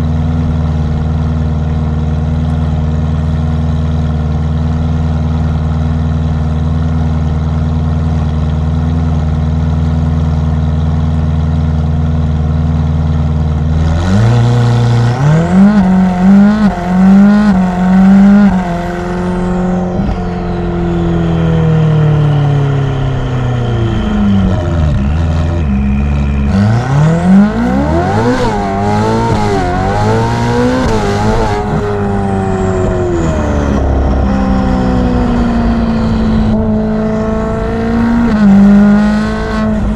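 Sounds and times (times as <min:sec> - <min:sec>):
sports car engine accelerating: 0:00.0 - 0:39.9.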